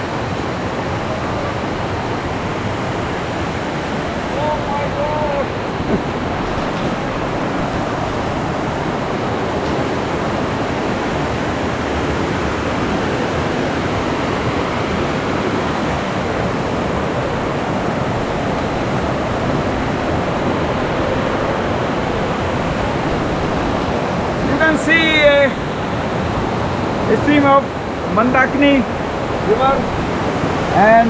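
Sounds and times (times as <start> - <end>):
mountain river rushing: 0.0 - 31.0.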